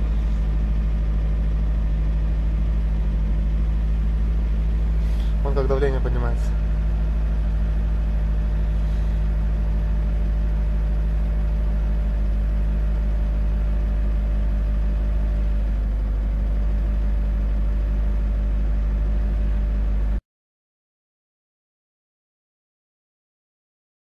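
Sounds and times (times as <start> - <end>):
engine idling: 0.0 - 20.2.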